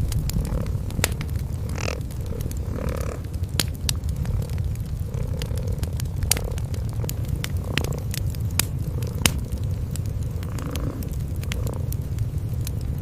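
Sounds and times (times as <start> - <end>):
cats purring: 0.0 - 13.0
wood fire crackling: 0.0 - 13.0.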